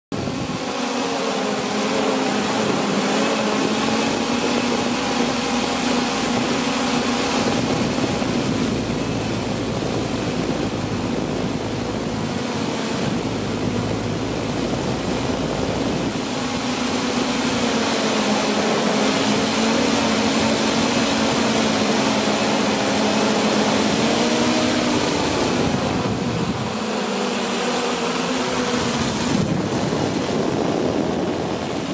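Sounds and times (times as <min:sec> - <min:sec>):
drone propellers buzzing: 0:00.1 - 0:31.9.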